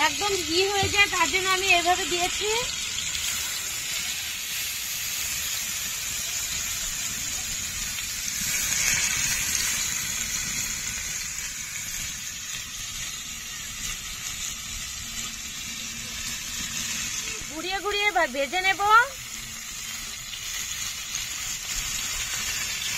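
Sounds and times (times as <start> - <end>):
kebabs sizzling in pan: 0.0 - 22.9.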